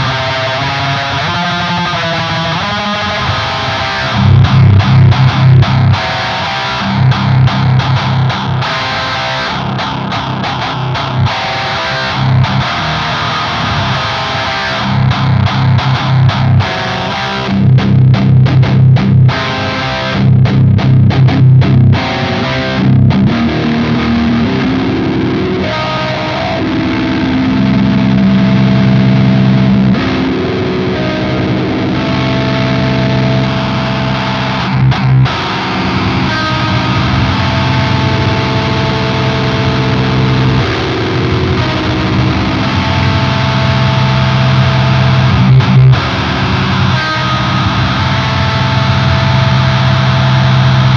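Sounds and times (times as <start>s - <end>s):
distorted electric guitar riffs: 0.0s - 50.9s.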